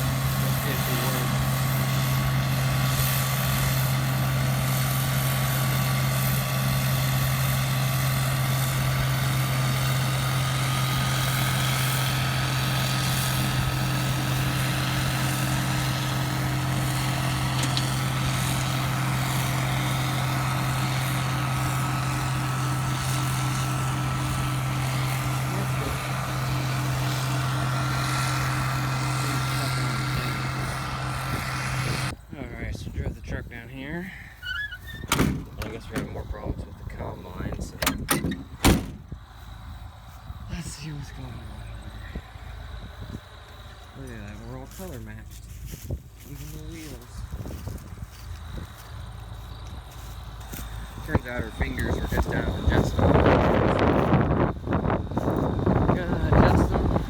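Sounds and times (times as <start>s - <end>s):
combine harvester engine hum: 0.0s - 57.0s.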